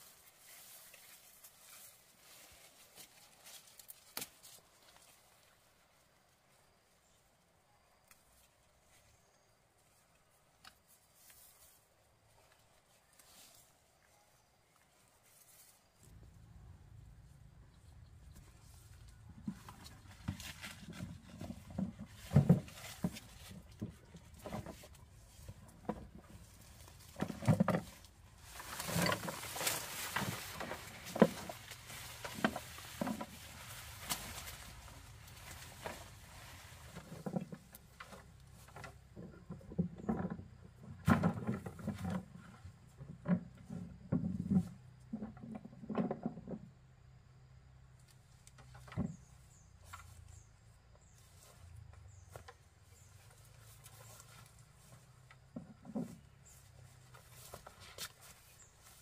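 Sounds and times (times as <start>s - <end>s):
rustling or scraping: 0.0s - 5.8s, 8.3s - 14.1s, 14.8s - 16.6s, 17.4s - 46.7s, 48.1s - 59.0s.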